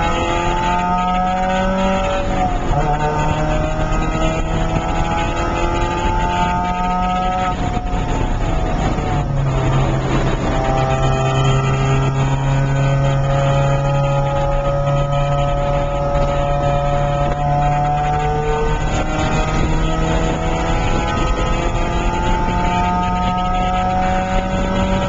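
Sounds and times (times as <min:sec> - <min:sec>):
car engine revving: 0:00.0 - 0:25.0
wind and road noise: 0:00.0 - 0:25.0.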